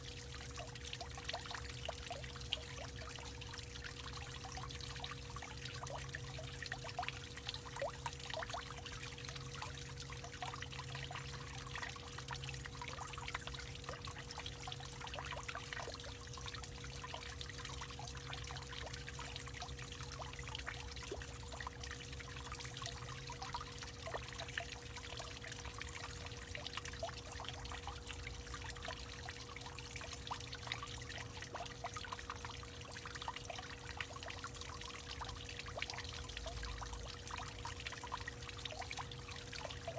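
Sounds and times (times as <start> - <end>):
faint steady hum: 0.0 - 39.9
water trickling and splashing: 0.0 - 39.9.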